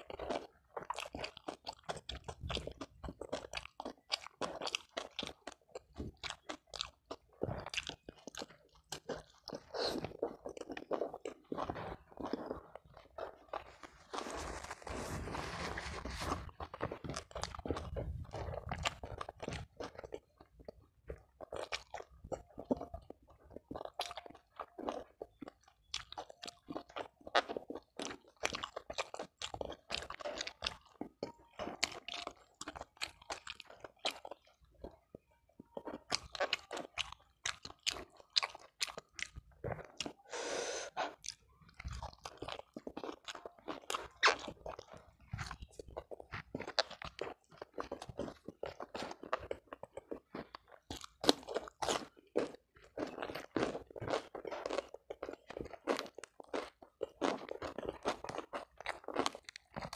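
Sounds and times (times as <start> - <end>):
chewing crunchy food: 0.0 - 59.9.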